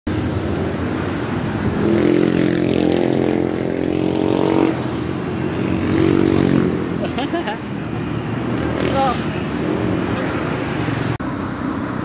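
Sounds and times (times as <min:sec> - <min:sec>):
street noise: 0:00.0 - 0:12.0
vehicle engine humming: 0:00.1 - 0:12.0.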